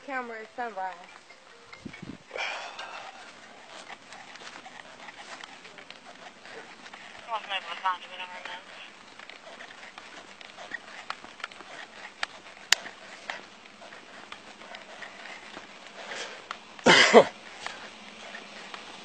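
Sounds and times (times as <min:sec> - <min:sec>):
body camera rustling and clicking: 0:00.3 - 0:19.0.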